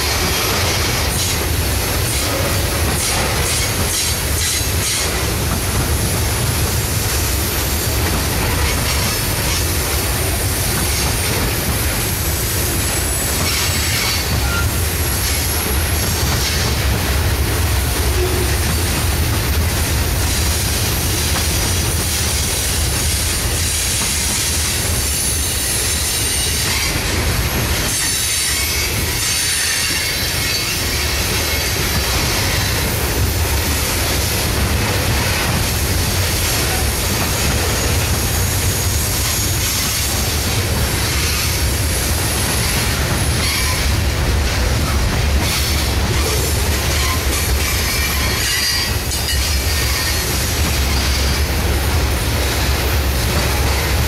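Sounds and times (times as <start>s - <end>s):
steel wheels rumbling on rails: 0.0s - 54.0s.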